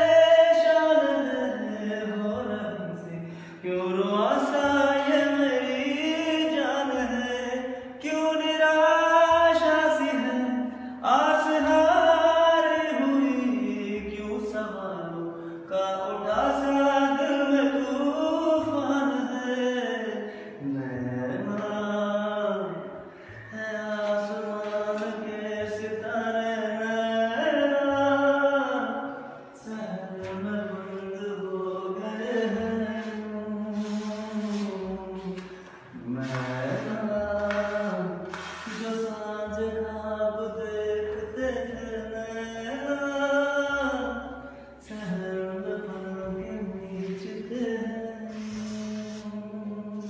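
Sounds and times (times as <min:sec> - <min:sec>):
man singing slow melody: 0:00.0 - 0:50.0.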